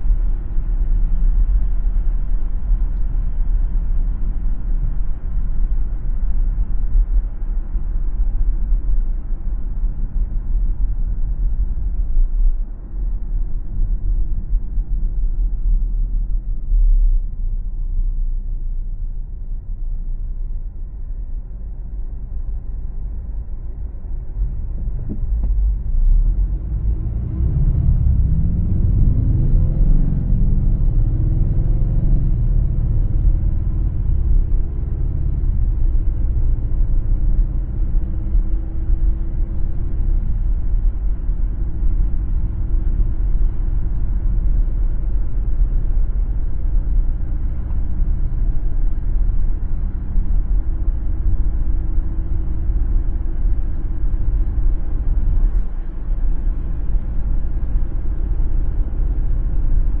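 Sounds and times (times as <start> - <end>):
car tyres and engine rumble: 0.0 - 60.0.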